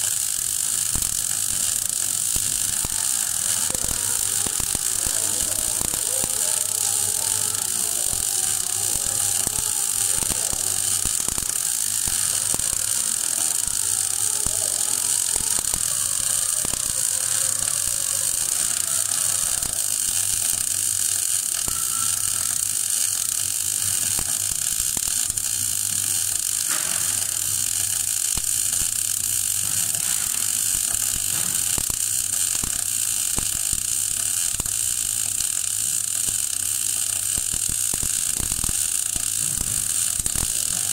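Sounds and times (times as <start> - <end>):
welding arc crackling and hissing: 0.0 - 40.9.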